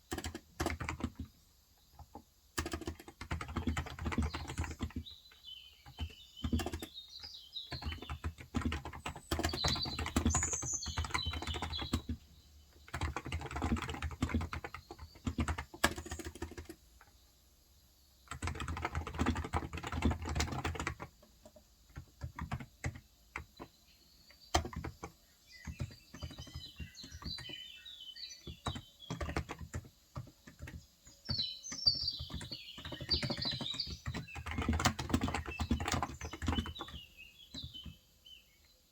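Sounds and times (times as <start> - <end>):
keyboard typing: 0.0 - 17.1, 18.3 - 27.7, 28.4 - 38.0
birds chirping: 0.0 - 38.9.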